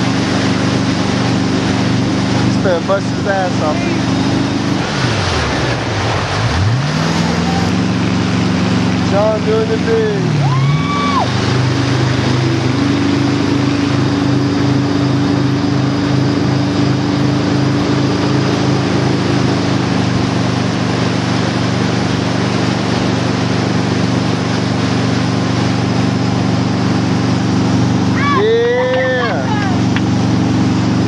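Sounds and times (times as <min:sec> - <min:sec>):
boat engine running: 0:00.0 - 0:31.0
rushing water: 0:00.0 - 0:31.0
wind: 0:00.0 - 0:31.0.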